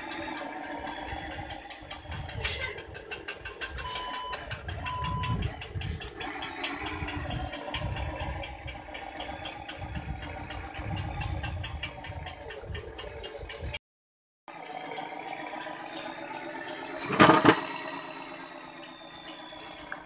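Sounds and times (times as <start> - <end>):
electric motor and gearbox whirring: 0.0 - 13.8, 14.5 - 20.0.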